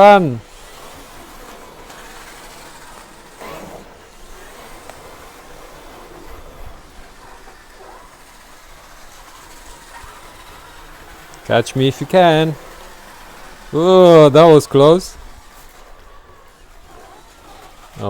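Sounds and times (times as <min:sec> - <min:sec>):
toy car electric motors: 0:00.0 - 0:18.0
tyres rolling over ground: 0:00.0 - 0:18.0.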